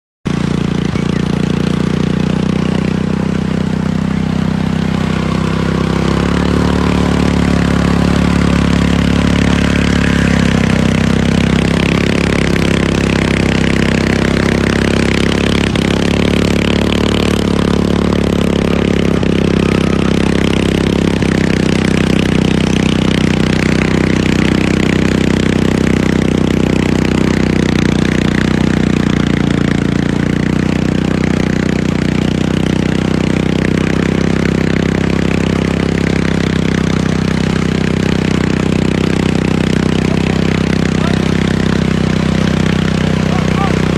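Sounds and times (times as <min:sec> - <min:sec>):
tractor engine running: 0:00.2 - 0:43.9.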